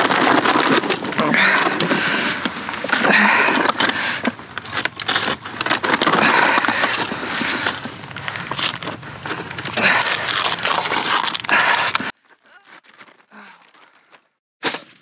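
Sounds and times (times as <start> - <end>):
plastic bag rustling and crinkling: 0.0 - 13.8.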